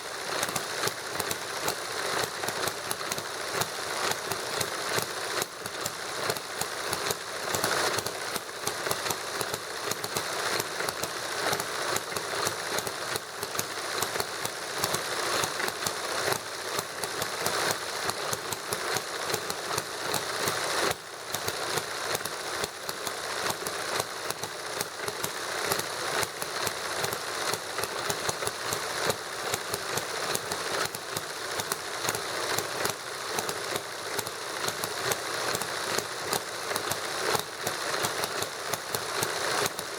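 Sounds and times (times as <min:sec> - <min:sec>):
model gasoline engine knocking: 0:00.0 - 0:39.9
model stirling engine running: 0:00.0 - 0:39.9.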